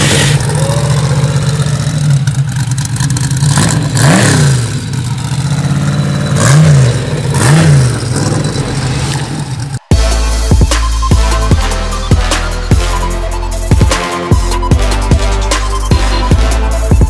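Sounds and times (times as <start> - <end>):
buggy engine idling and revving: 0.0 - 17.0.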